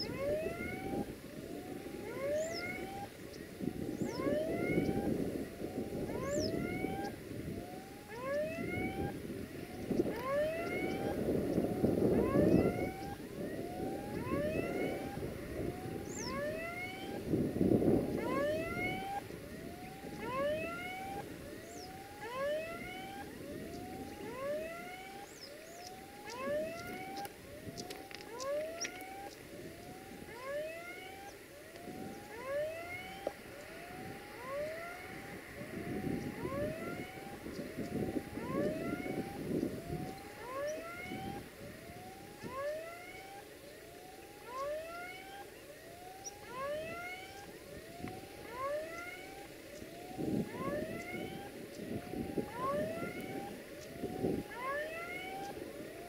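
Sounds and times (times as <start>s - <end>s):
rising chirp-like tone: 0.0s - 55.6s.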